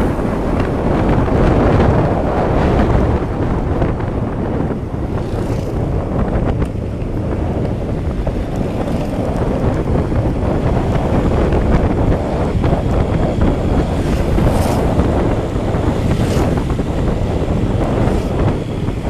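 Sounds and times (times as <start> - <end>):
low rumble: 0.0 - 19.0
wind buffeting microphone: 0.0 - 19.0.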